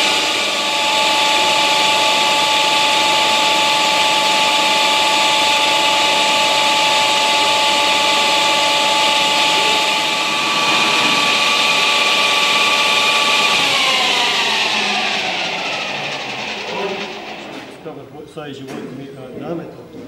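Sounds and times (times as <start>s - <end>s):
electric motor whining: 0.0s - 17.8s.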